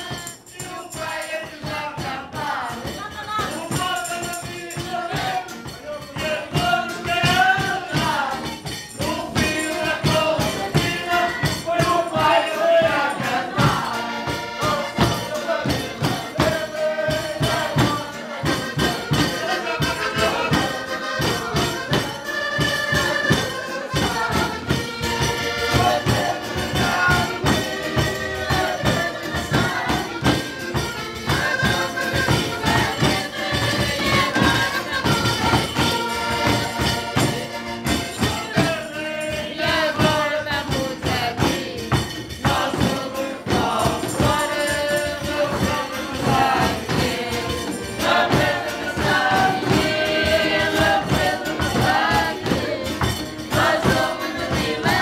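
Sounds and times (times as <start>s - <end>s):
accordion: 0.0s - 55.0s
fast rattling beat: 0.0s - 55.0s.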